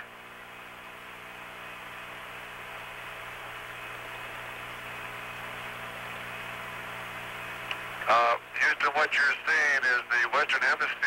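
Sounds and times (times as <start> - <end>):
radio channel hiss and hum: 0.0 - 11.0.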